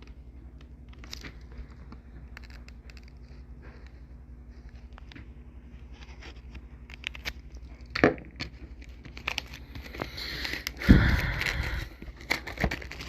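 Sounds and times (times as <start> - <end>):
wrapping crinkling: 0.0 - 13.0.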